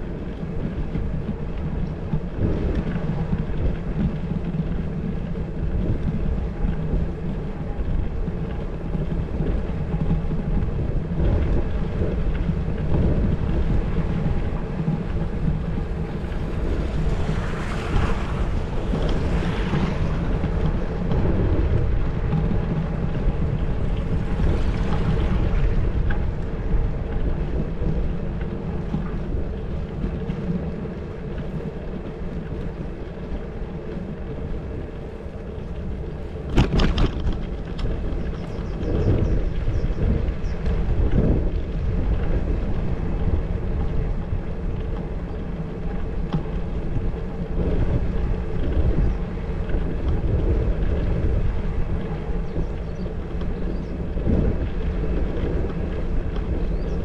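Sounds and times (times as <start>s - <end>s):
low rumble of bicycle ride: 0.0s - 57.0s
wind rushing over microphone: 0.0s - 57.0s.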